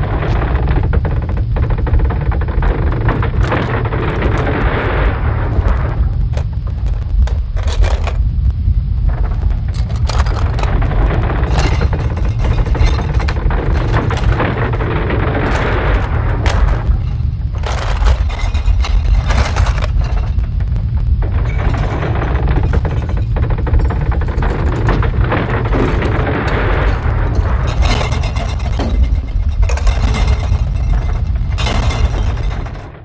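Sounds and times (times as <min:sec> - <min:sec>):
buildings cracking and crumbling: 0:00.0 - 0:33.0
deep earthquake rumble: 0:00.0 - 0:33.0.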